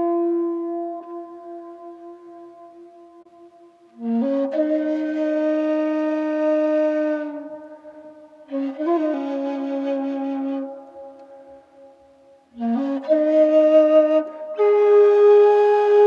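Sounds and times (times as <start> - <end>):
slow flute music: 0.0 - 16.0.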